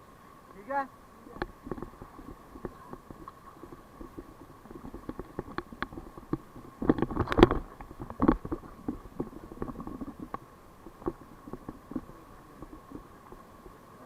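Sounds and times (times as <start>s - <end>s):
faint steady hum: 0.0s - 14.0s
muffled knocks and thumps: 1.3s - 13.5s.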